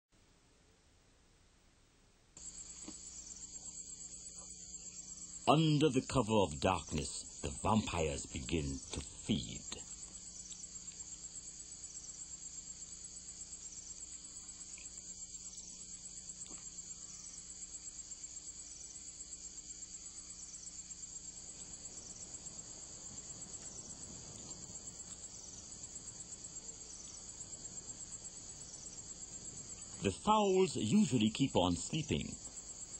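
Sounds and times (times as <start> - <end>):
crickets trilling: 2.4 - 32.9.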